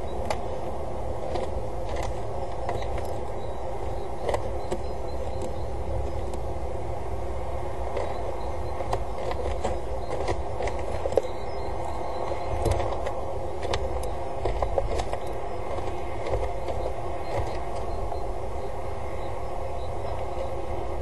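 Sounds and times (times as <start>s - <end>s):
bird scratching gravel: 0.0s - 18.1s
background hum and rumble: 0.0s - 21.0s.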